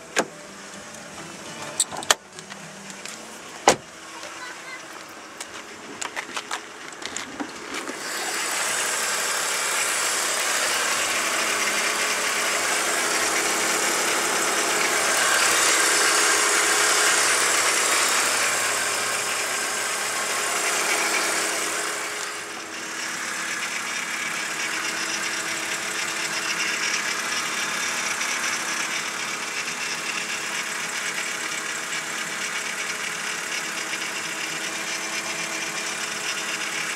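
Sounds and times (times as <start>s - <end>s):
car engine running: 0.0s - 36.9s
engine rattling: 0.0s - 36.9s.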